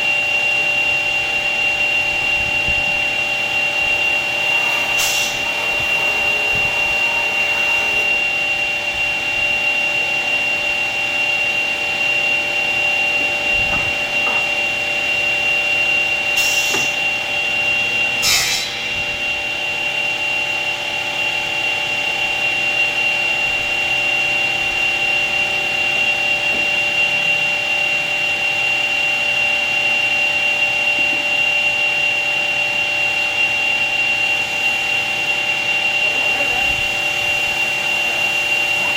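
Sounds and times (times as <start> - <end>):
woodworking machine whining: 0.0 - 38.9.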